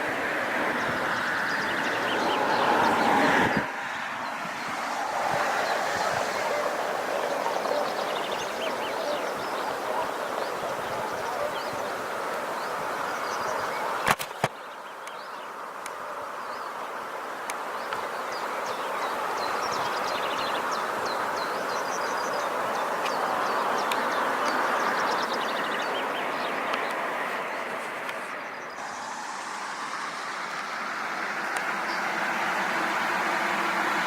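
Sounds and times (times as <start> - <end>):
river rushing: 0.0 - 34.0.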